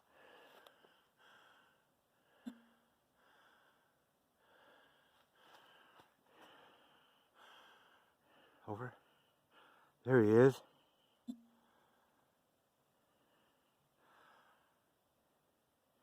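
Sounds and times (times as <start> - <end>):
person breathing: 0.0 - 10.0, 10.7 - 12.4, 13.0 - 14.9.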